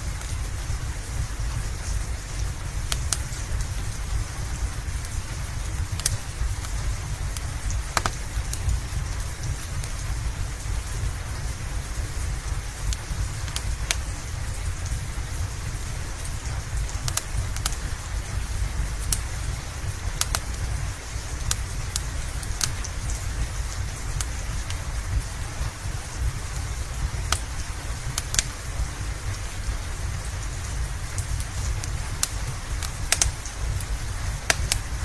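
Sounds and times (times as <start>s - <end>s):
steady rain: 0.0s - 35.0s
wood fire crackling: 0.0s - 35.0s.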